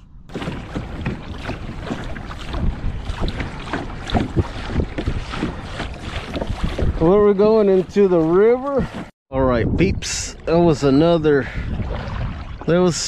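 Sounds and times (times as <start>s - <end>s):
water splashing around hull: 0.2s - 9.2s, 10.4s - 13.0s
wind buffeting microphone: 0.2s - 13.0s.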